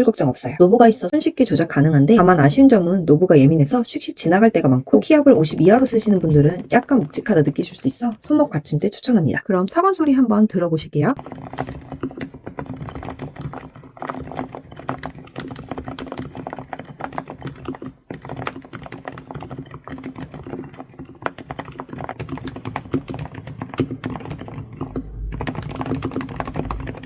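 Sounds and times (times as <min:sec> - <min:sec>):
muted mechanical keyboard typing: 0:01.0 - 0:03.7, 0:04.3 - 0:10.3, 0:11.2 - 0:27.0.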